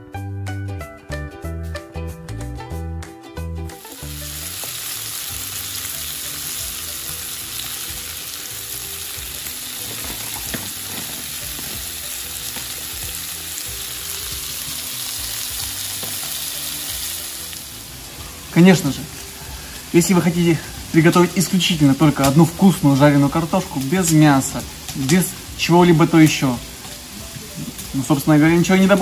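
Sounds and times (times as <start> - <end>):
music: 0.0 - 29.0
meat sizzling in hot oil: 3.7 - 29.0.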